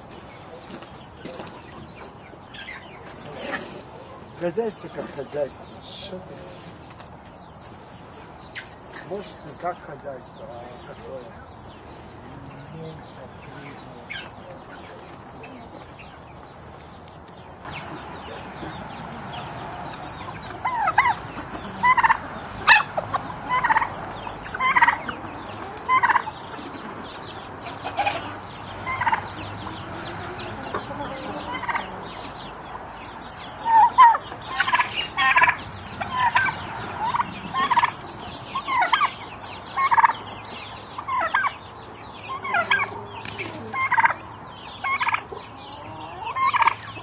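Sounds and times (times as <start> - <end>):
chickens and turkey calling: 0.0 - 47.0.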